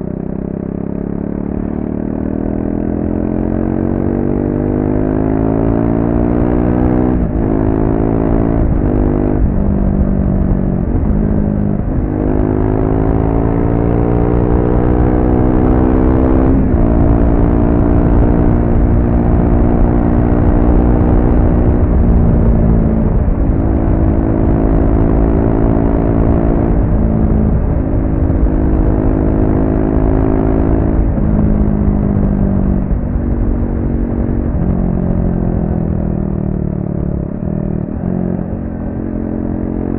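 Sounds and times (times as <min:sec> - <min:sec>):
motorcycle engine shifting gears: 0:01.5 - 0:39.9.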